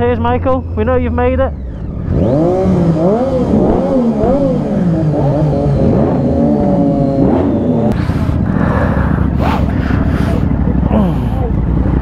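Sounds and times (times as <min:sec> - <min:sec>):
low engine rumble: 0:00.0 - 0:12.0
motorcycle engines revving: 0:00.0 - 0:12.0.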